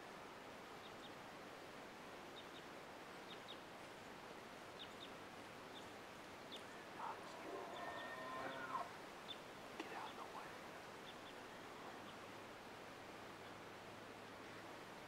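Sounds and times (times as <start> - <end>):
steady soft hiss: 0.0 - 15.0.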